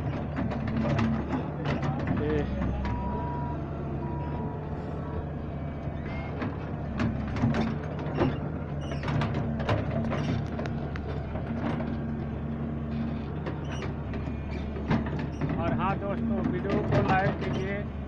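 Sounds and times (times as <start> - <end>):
excavator bucket knocking and scraping: 0.0 - 4.5, 5.4 - 18.0
excavator diesel engine running: 0.0 - 18.0.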